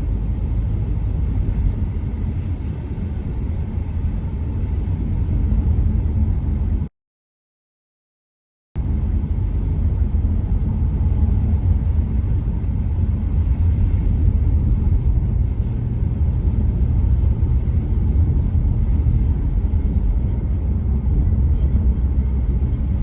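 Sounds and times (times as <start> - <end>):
car driving road rumble: 0.0 - 6.9, 8.8 - 23.0.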